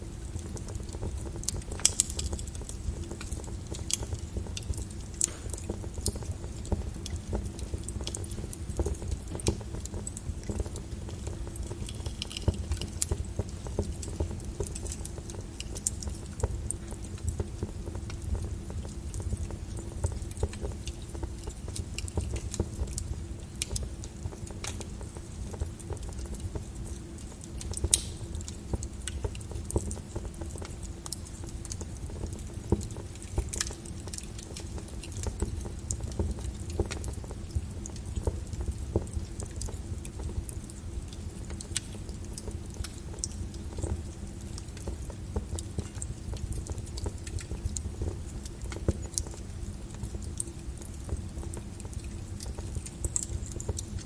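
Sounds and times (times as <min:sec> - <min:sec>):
rain: 0:00.0 - 0:54.0
wood fire crackling: 0:00.0 - 0:54.0.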